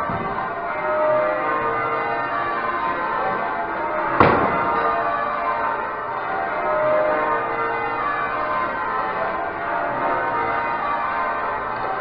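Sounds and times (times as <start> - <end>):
church bells ringing in changes: 0.0 - 12.0.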